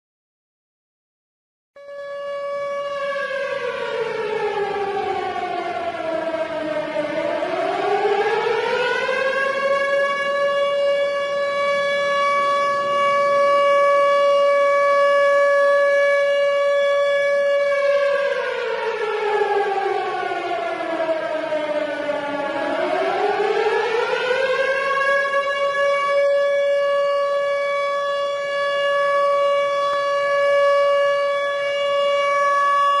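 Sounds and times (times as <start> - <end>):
warning siren wailing: 1.8 - 33.0.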